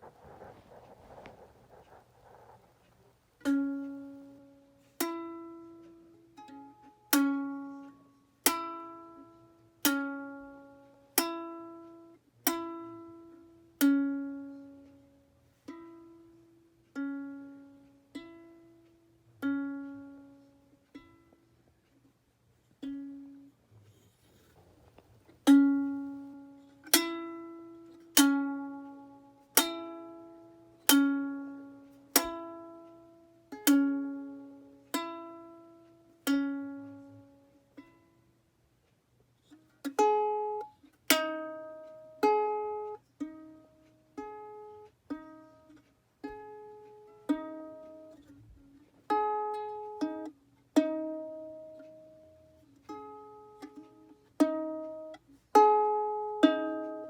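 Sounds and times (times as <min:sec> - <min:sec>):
ukulele plucked notes: 0:03.4 - 0:22.0, 0:22.8 - 0:23.6, 0:25.3 - 0:38.3, 0:39.4 - 0:57.0.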